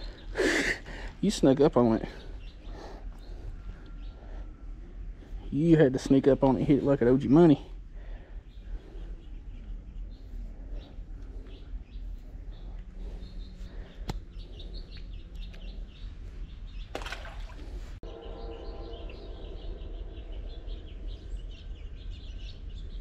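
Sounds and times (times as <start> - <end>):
low outdoor rumble: 0.0 - 23.0
small birds chirping: 0.0 - 23.0.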